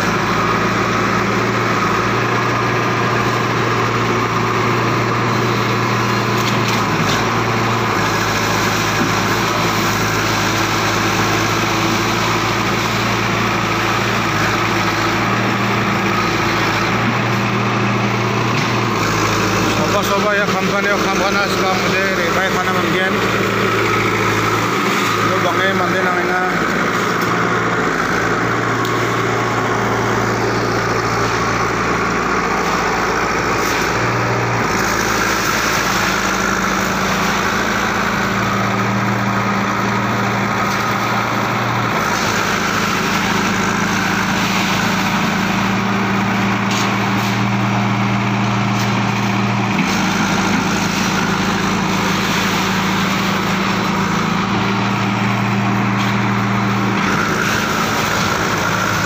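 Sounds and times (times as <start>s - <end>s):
steel plant machinery drone: 0.0s - 59.0s.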